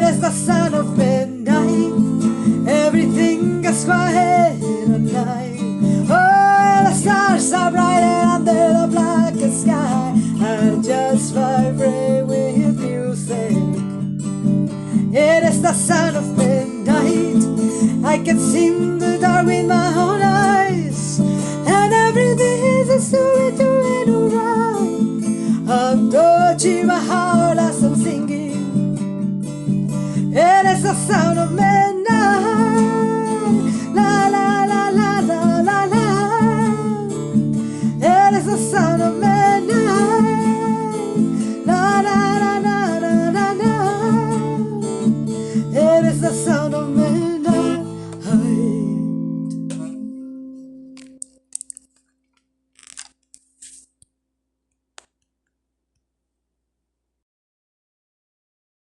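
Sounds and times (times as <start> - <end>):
woman singing: 0.0 - 13.8, 14.9 - 28.8, 30.2 - 50.3
strummed acoustic guitar: 0.0 - 51.3.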